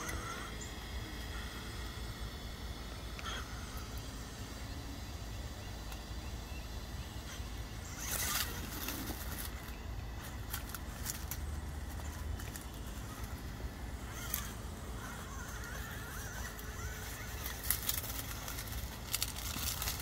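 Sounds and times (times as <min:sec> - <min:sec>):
electric motor whirring: 0:00.0 - 0:20.0.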